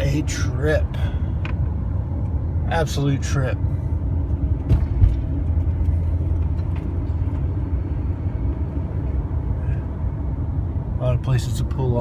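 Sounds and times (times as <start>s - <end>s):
van road and engine rumble: 0.0s - 12.0s.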